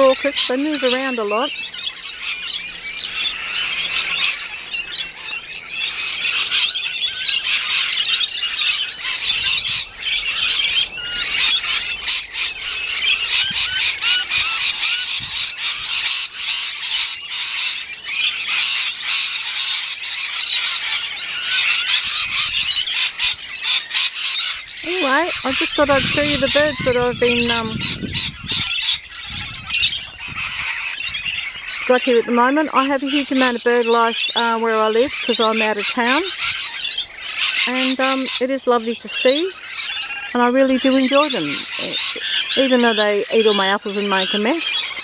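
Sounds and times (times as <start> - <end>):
lorikeets screeching and chattering: 0.0 - 45.0.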